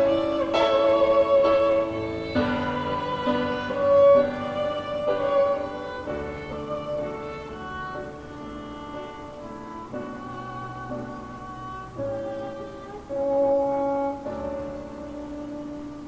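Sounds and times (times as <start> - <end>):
violin melody over strings: 0.0 - 16.0.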